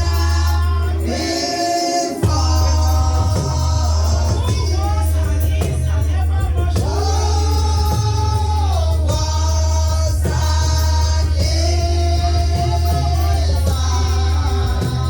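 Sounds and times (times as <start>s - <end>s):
church singing with instruments: 0.0s - 15.0s
steady deep bass: 0.0s - 15.0s.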